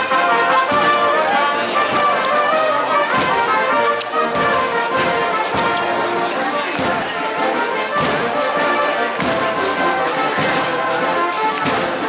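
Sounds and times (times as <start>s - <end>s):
brass marching band playing: 0.0s - 12.0s
low drum thumps: 0.6s - 12.0s.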